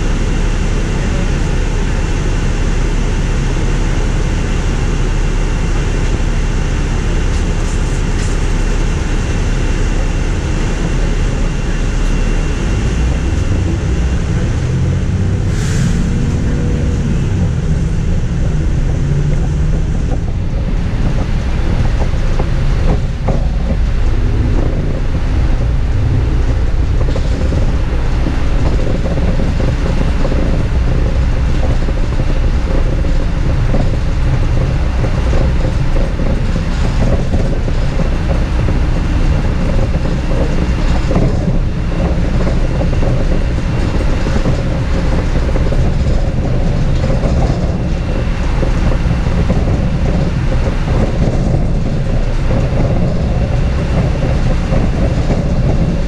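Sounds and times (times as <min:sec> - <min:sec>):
bus rumbling inside cabin: 0:00.0 - 0:56.0.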